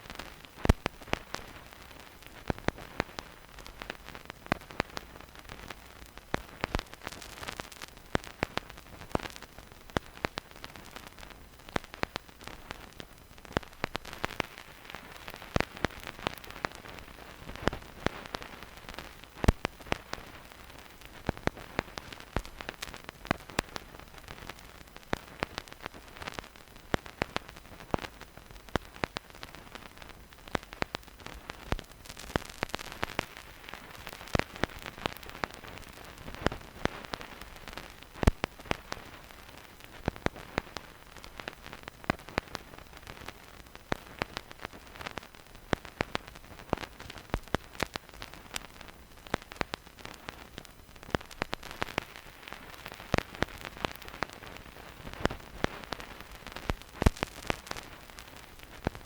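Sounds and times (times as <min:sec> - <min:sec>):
stylus pops and crackles: 0:00.0 - 0:59.0
vinyl record hiss: 0:00.0 - 0:59.0.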